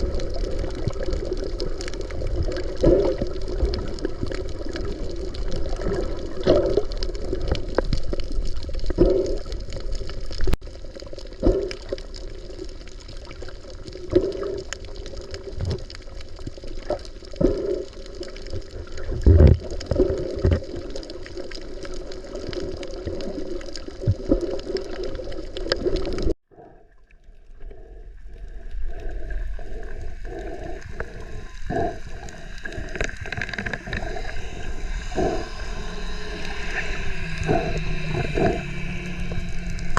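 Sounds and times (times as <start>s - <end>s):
steady water noise with pulsing: 0.0s - 39.9s
water gurgling and sloshing: 0.0s - 39.9s.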